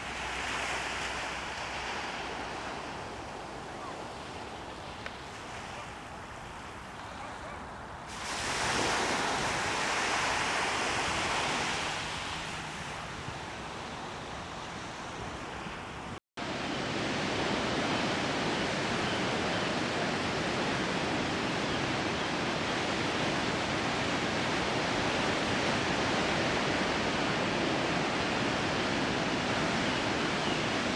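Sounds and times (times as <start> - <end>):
rushing water: 0.0 - 30.9
wind: 0.0 - 30.9.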